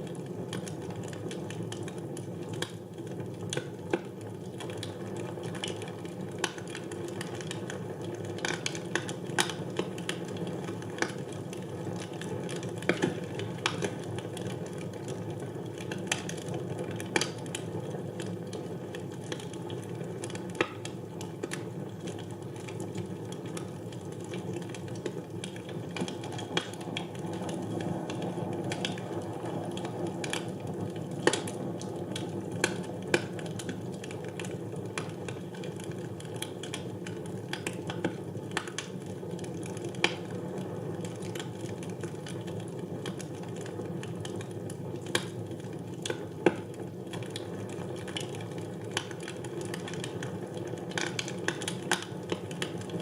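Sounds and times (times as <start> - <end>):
fire burning in a fireplace: 0.0 - 53.0.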